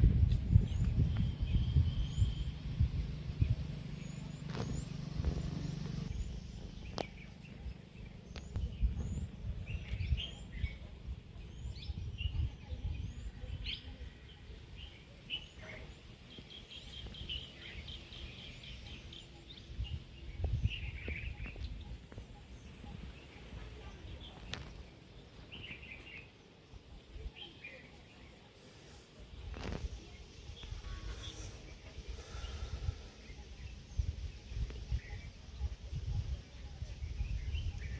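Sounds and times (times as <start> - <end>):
wind rumbling on microphone: 0.0 - 28.0, 29.1 - 37.9
small birds chirping: 0.0 - 37.9.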